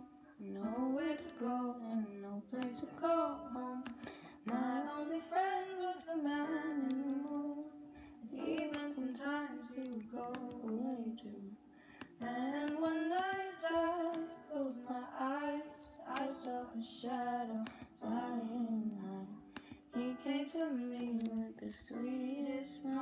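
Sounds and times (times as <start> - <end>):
woman singing: 0.0 - 11.6, 12.2 - 23.0
faint background music: 0.0 - 23.0.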